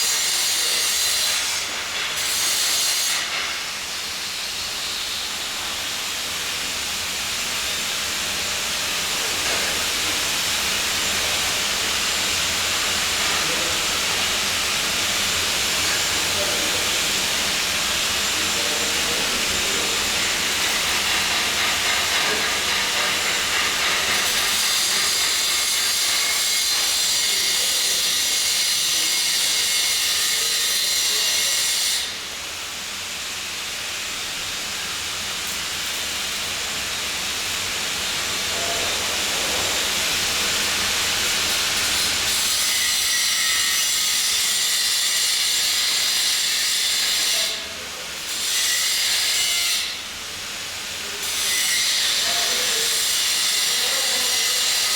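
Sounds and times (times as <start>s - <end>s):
welding equipment hissing: 0.0s - 32.9s, 33.9s - 47.6s.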